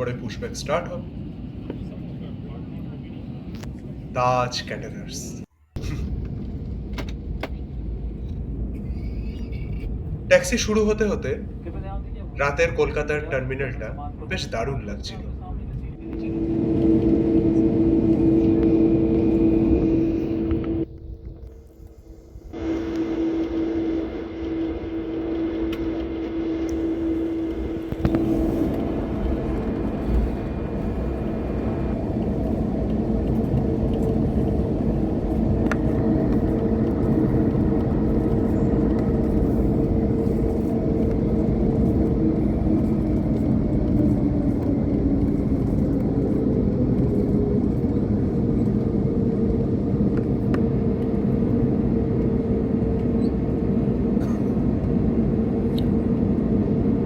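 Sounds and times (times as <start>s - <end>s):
jet engine hum in cabin: 0.0s - 57.0s.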